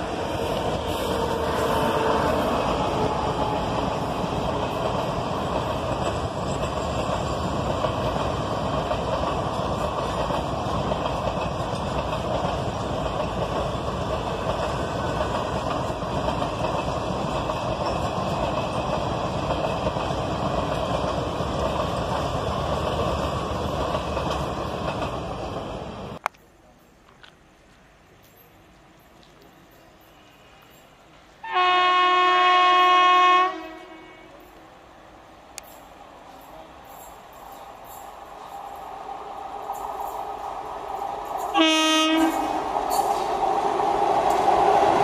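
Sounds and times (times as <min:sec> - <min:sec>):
train wheels running on rail: 0:00.0 - 0:45.0.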